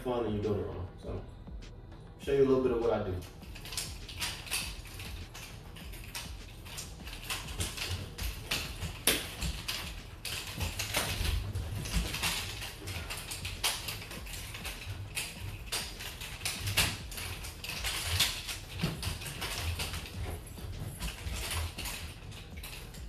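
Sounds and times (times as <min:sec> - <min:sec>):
nunchuck handles clicking: 0:03.2 - 0:23.0.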